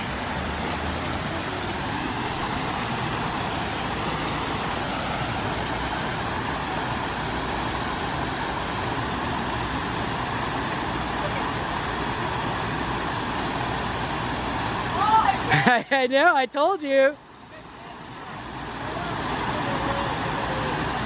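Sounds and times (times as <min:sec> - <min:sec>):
waterfall splashing into pool: 0:00.0 - 0:17.1, 0:18.1 - 0:21.0.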